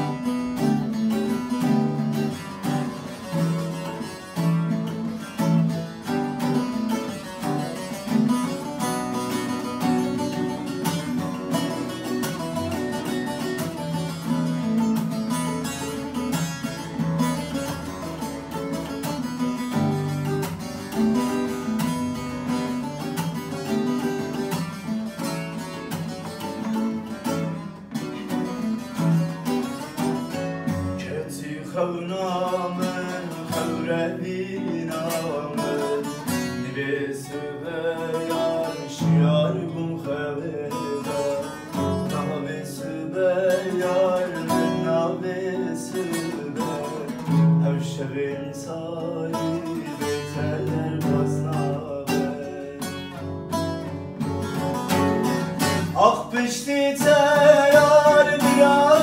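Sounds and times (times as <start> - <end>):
acoustic guitar strumming chords: 0.0 - 59.0
long-necked lute picking melody: 0.0 - 59.0.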